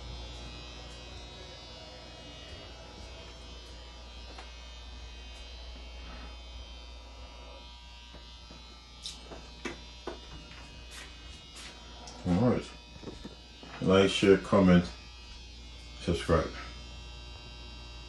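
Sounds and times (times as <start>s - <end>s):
electrical hum and buzz: 0.0s - 18.0s.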